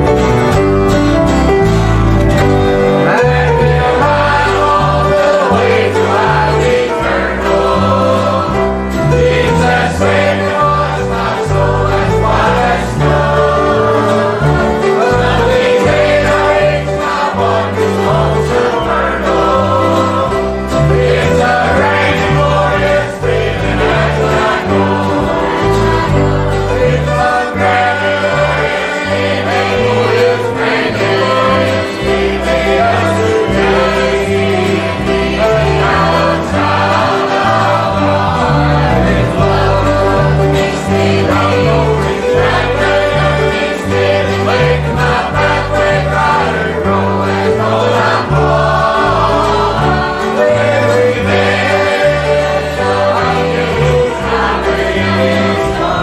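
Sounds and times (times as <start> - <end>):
bass line: 0.0 - 56.0
choir singing a hymn: 0.0 - 56.0
guitars: 0.0 - 56.0.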